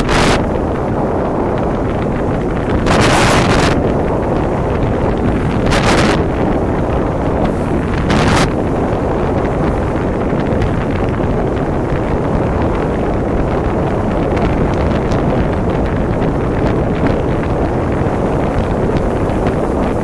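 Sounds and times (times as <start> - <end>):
water rushing along boat hull: 0.0 - 20.0
wind buffeting microphone: 0.0 - 20.0.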